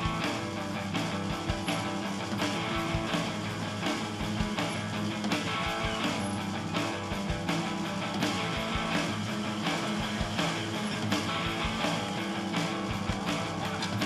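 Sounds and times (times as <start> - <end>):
rock music with guitar: 0.0 - 14.0
steady drum beat: 0.0 - 14.0.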